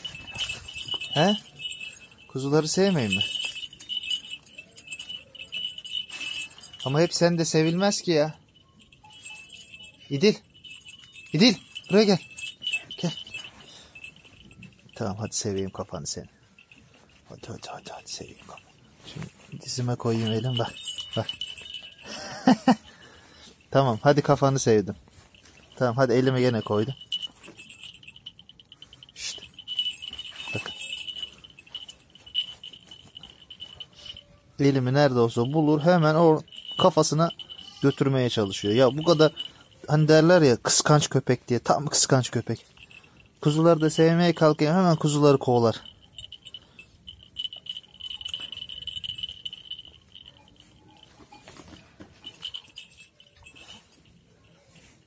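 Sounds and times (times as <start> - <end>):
small bells jingling: 0.0 - 55.0.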